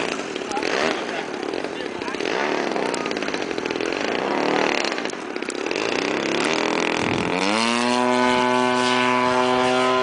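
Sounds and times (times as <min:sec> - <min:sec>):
model airplane engine revving: 0:00.0 - 0:10.0.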